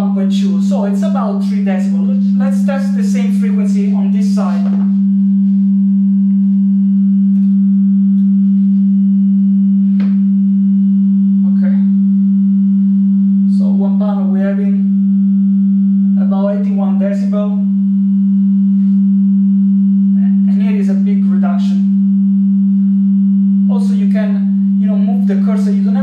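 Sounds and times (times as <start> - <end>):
steady sine test tone: 0.0 - 26.0.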